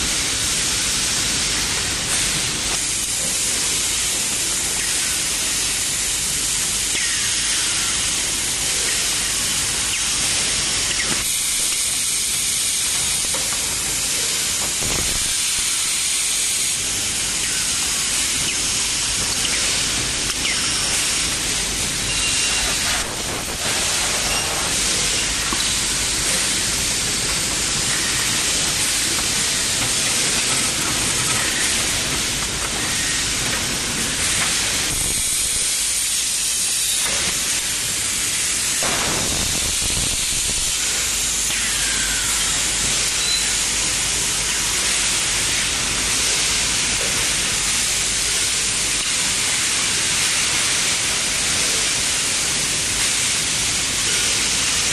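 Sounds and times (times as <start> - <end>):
factory machinery hiss: 0.0 - 54.9.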